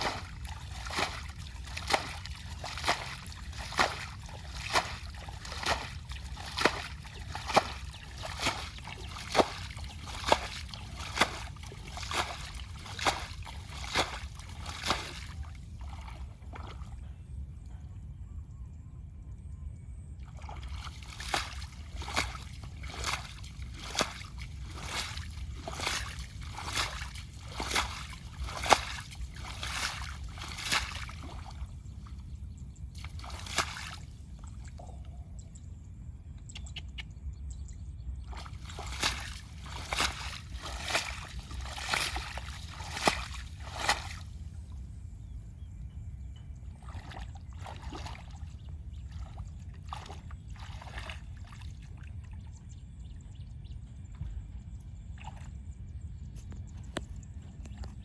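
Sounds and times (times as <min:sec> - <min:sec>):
water splashing and sloshing: 0:00.0 - 0:17.8, 0:20.2 - 0:35.1, 0:37.7 - 0:58.0
steady low rumble: 0:00.0 - 0:58.0.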